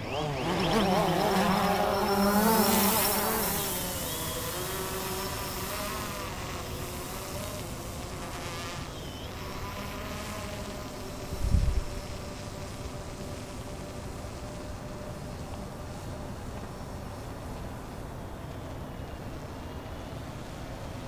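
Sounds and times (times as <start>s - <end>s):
quadcopter propellers buzzing: 0.0s - 21.0s.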